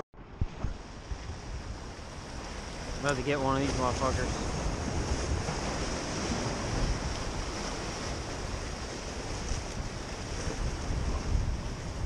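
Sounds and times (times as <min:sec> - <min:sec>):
wind rumbling on microphone: 0:00.2 - 0:12.0
surf breaking against rocks: 0:00.5 - 0:12.0.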